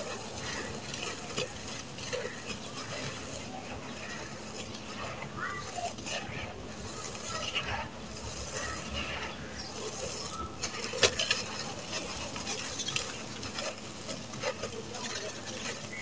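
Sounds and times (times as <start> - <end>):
crunching of crumbled cement: 0.0 - 16.0.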